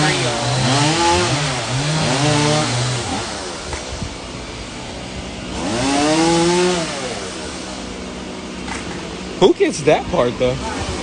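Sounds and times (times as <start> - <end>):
chainsaw idling and revving: 0.0 - 11.0.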